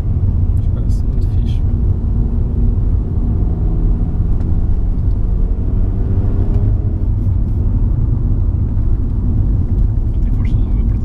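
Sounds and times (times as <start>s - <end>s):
car engine accelerating: 0.0s - 11.0s
low road rumble: 0.0s - 11.0s.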